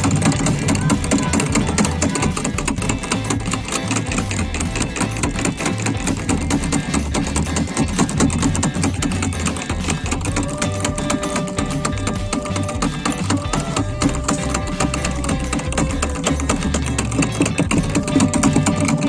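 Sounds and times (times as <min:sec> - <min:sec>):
small engine clattering: 0:00.0 - 0:19.0.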